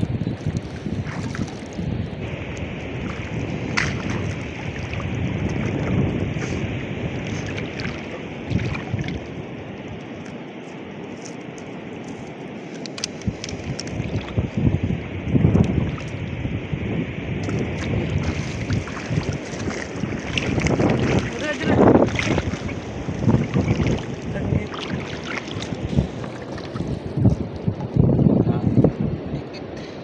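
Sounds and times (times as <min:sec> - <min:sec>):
wind buffeting microphone: 0:00.0 - 0:10.2, 0:12.8 - 0:30.0
water splashes and drips: 0:00.0 - 0:11.7, 0:12.6 - 0:14.7, 0:15.4 - 0:16.4, 0:17.4 - 0:28.2.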